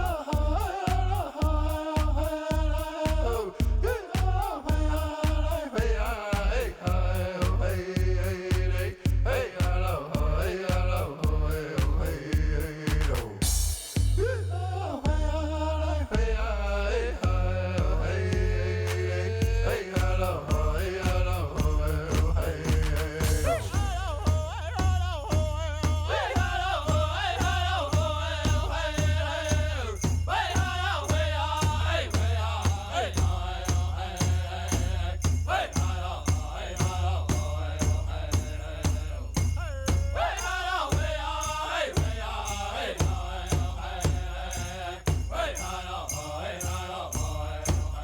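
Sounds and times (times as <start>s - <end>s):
steady drumbeat: 0.0s - 15.6s, 16.2s - 16.6s, 17.2s - 48.0s
chant-like singing: 0.0s - 48.0s.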